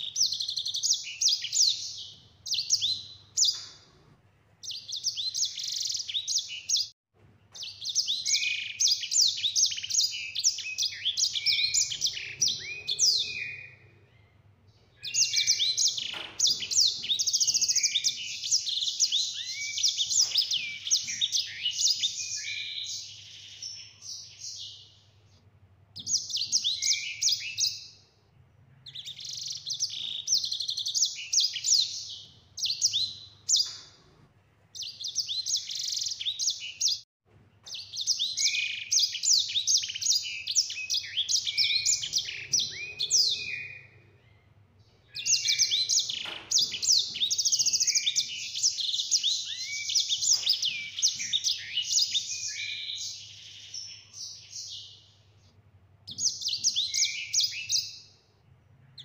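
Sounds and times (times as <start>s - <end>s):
finch twittering song: 0.0s - 4.0s, 4.6s - 6.9s, 7.5s - 25.3s, 26.0s - 28.2s, 28.8s - 34.1s, 34.8s - 37.0s, 37.6s - 55.5s, 56.1s - 58.3s.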